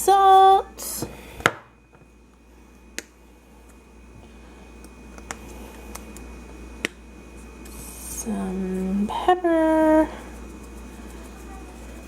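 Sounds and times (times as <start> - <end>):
low steady hiss and hum: 0.0 - 12.0.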